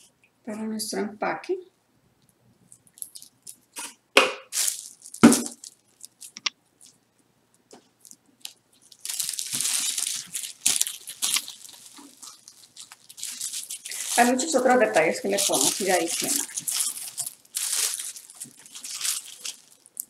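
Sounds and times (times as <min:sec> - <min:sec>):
wrapping paper crinkling: 0:02.7 - 0:07.0, 0:07.9 - 0:20.0.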